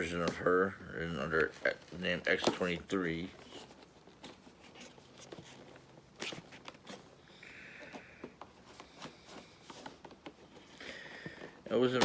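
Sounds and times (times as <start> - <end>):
cardboard packaging clicks and crinkles: 1.2 - 12.0.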